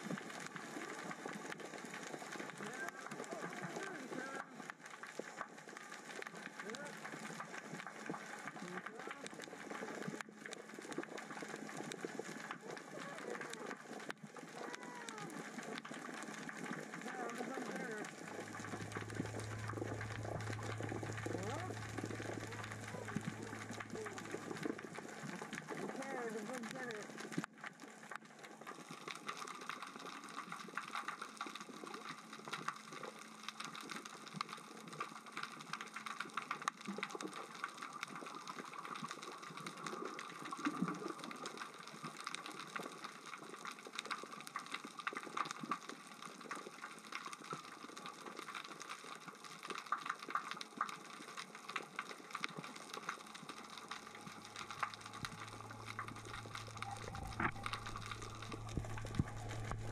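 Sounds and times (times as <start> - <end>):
underwater rocks clicking: 0.0 - 59.9.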